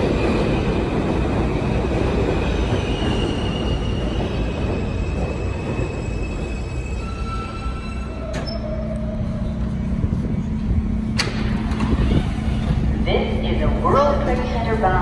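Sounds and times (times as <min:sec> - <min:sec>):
subway train electric whine: 0:00.0 - 0:15.0.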